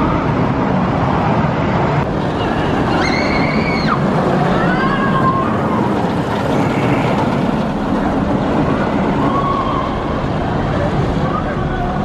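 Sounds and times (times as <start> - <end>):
roller coaster wheels rumbling: 0.0 - 12.0.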